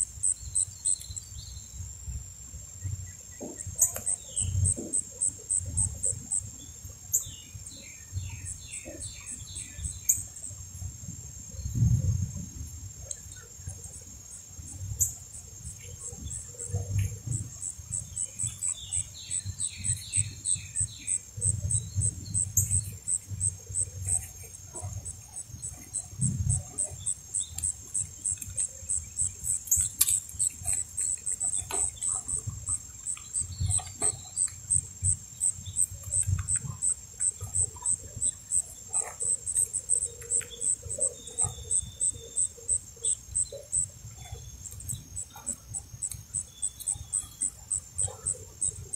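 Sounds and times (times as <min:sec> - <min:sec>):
pulsing insect call: 0:00.0 - 0:48.9.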